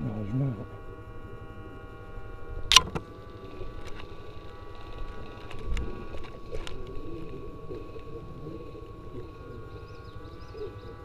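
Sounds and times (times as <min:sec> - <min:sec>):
faint high whine: 0:00.0 - 0:11.0
low rumble on microphone: 0:00.0 - 0:11.0.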